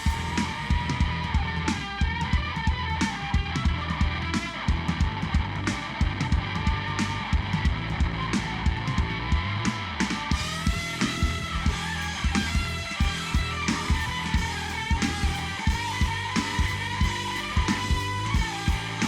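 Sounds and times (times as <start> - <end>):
bass: 0.0 - 19.0
driving drum beat: 0.0 - 19.0
electric guitar: 0.0 - 19.0.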